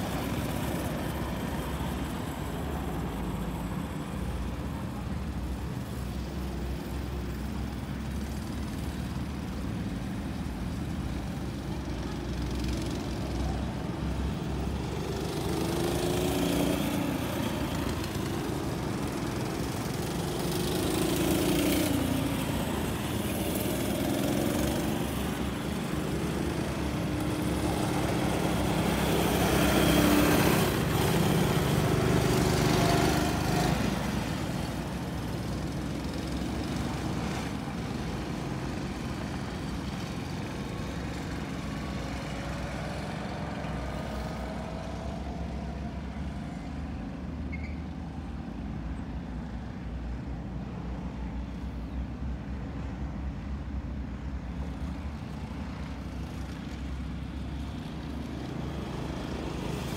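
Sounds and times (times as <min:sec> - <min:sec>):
go-kart engines: 0:00.0 - 0:59.9.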